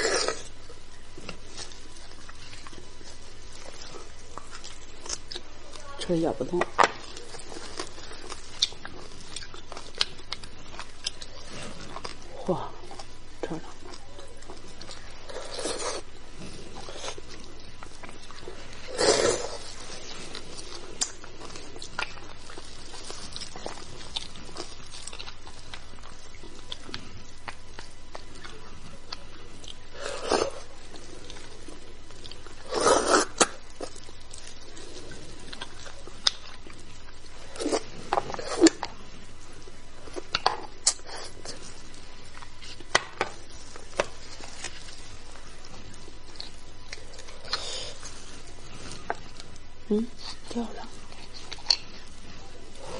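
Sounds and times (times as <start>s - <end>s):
bone marrow chewing: 0.0s - 52.9s.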